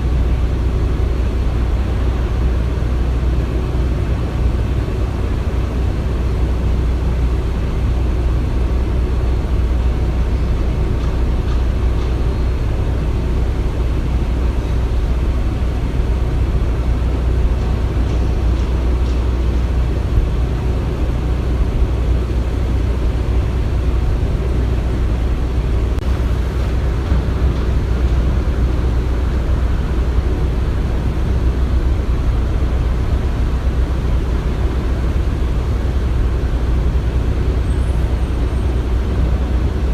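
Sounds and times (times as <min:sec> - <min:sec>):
heavy machinery rumble: 0:00.0 - 0:39.9.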